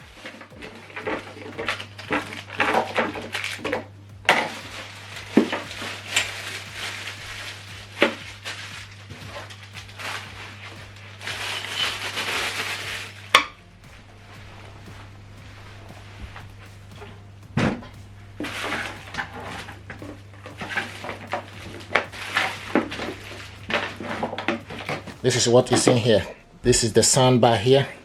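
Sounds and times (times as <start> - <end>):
packaging rustling: 0.0 - 27.2
steady low hum: 0.0 - 28.0.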